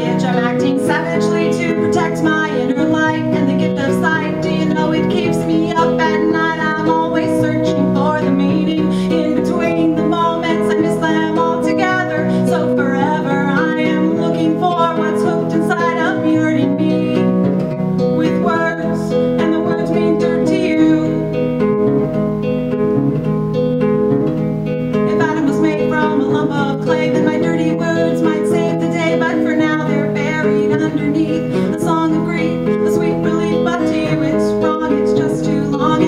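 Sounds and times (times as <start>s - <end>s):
woman singing: 0.0s - 21.4s, 25.1s - 36.0s
strummed acoustic guitar: 0.0s - 36.0s.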